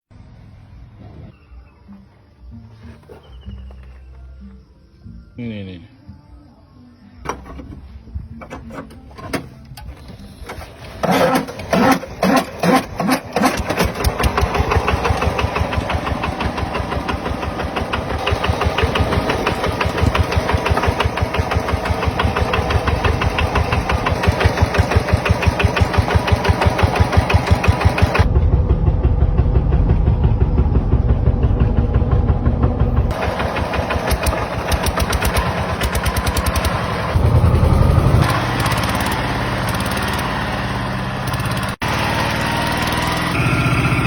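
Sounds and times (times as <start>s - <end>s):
diesel engine starting: 7.2s - 44.0s.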